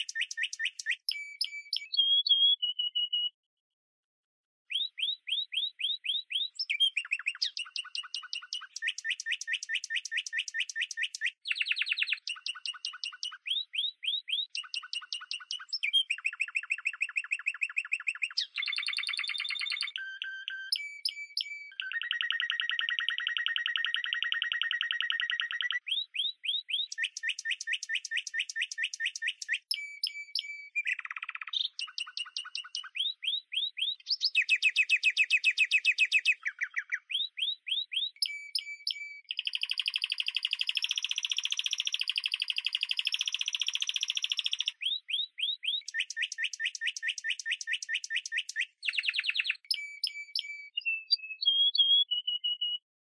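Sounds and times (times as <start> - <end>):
songbird singing trills: 0.0 - 3.4, 4.7 - 52.9.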